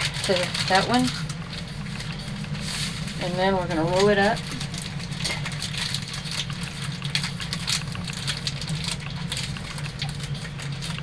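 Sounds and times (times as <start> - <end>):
low machine hum: 0.0 - 11.0
paper crinkling and rustling: 0.0 - 11.0.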